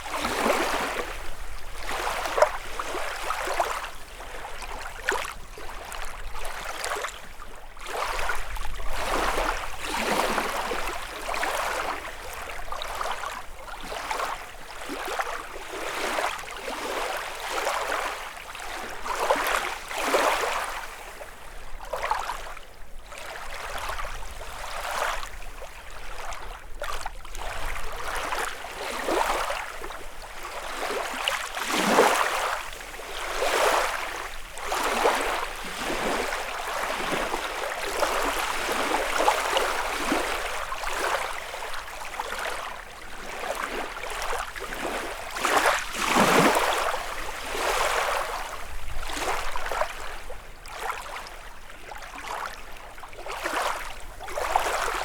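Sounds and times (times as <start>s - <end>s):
lake waves lapping on shore: 0.0s - 55.0s.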